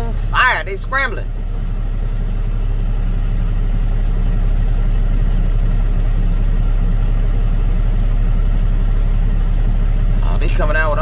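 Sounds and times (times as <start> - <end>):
large engine idling: 0.0 - 11.0.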